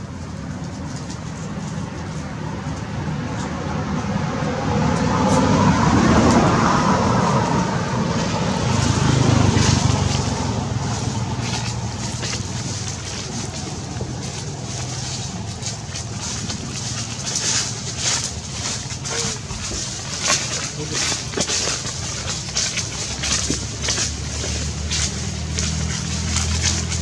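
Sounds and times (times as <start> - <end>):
vehicle engine passing by: 1.0 - 27.0.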